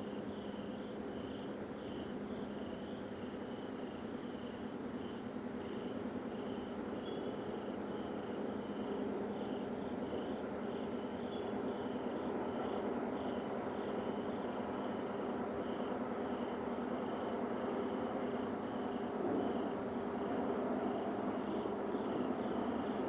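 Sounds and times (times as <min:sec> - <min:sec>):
crickets chirping: 0:00.1 - 0:23.0.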